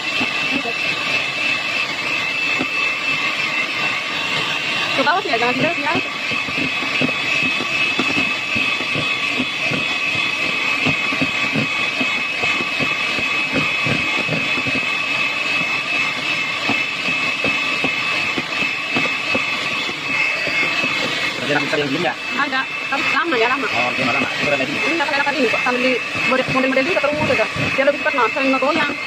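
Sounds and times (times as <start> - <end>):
hand mixer motor whine: 0.0 - 29.0.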